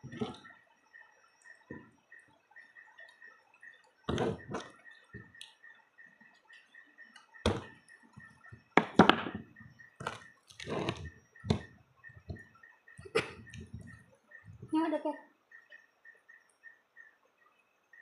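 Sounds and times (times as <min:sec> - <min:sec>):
faint high-pitched pulsing tone: 0:00.0 - 0:18.0.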